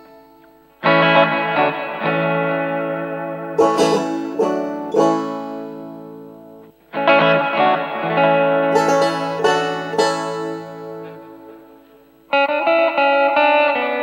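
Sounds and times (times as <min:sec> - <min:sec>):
plucked-string bluegrass instrumental: 0:00.0 - 0:14.0.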